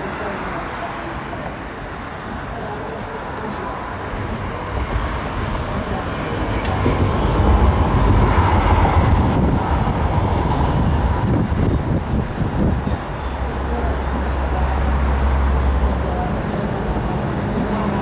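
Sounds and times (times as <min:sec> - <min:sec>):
traffic rumbling past: 0:00.0 - 0:18.0.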